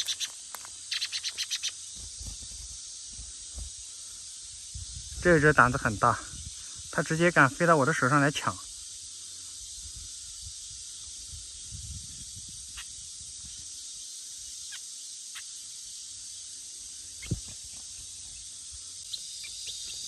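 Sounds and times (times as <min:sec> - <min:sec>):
insect chorus hissing: 0:00.0 - 0:20.0.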